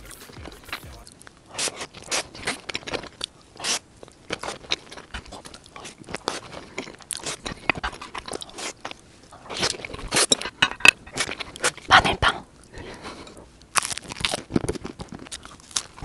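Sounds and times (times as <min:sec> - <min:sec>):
close chewing and crunching food: 0:00.0 - 0:16.0.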